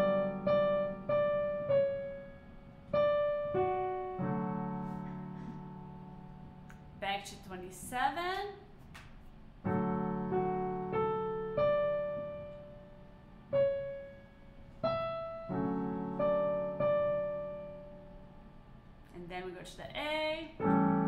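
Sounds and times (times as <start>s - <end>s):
digital piano played slowly: 0.0s - 7.7s, 9.4s - 19.1s, 20.5s - 21.0s.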